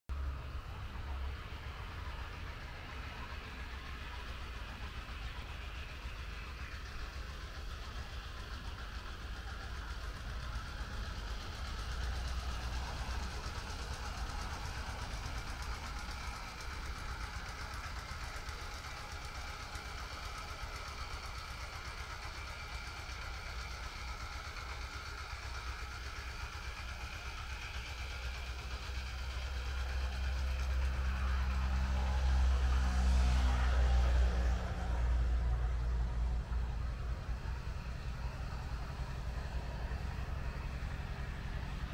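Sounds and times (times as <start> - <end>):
vehicle engine rumble: 0.1 - 41.9.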